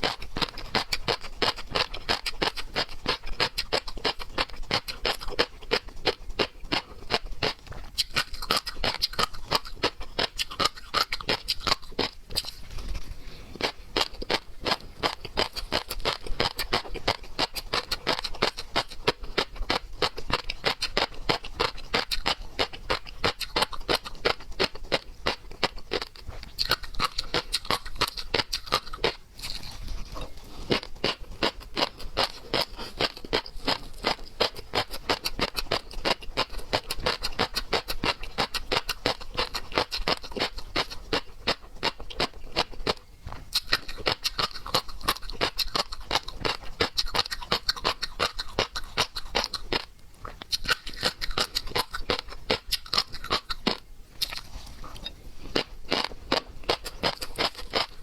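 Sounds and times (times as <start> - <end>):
mouth chewing seafood: 0.0 - 58.0.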